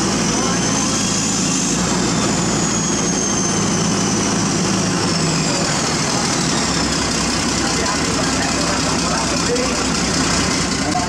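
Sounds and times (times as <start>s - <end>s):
heavy machinery engine running: 0.0s - 11.0s.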